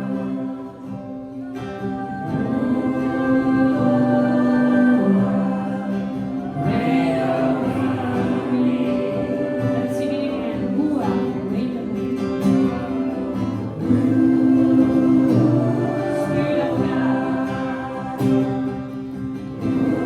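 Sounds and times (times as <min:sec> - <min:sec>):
acoustic guitar: 0:00.0 - 0:20.0
worship singing: 0:00.0 - 0:20.0.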